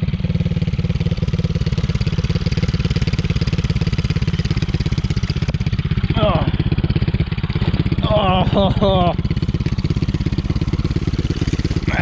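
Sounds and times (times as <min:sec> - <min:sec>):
small engine puttering: 0:00.0 - 0:12.0.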